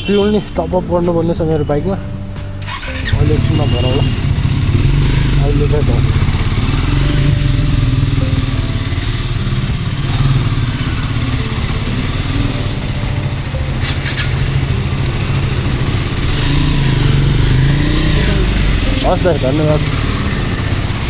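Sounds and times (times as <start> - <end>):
motorcycle engine running: 2.6 - 21.0.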